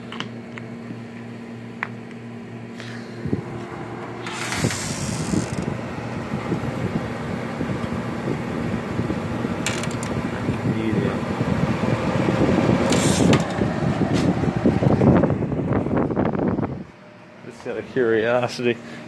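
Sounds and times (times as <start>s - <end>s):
air conditioner running: 0.0s - 19.0s.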